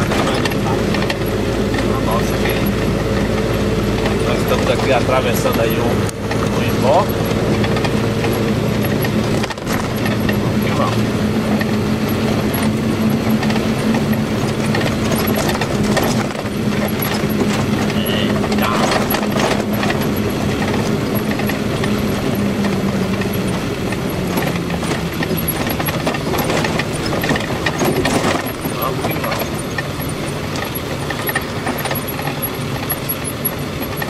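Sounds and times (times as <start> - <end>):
cab clicks and rattles: 0.0 - 34.0
truck engine hum: 0.0 - 34.0.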